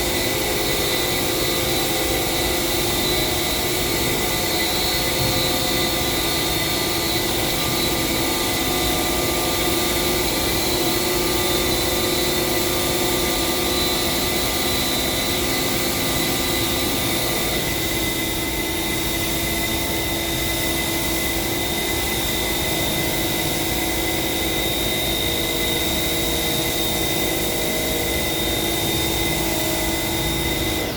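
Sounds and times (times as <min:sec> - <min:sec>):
spray-painting equipment running: 0:00.0 - 0:30.9.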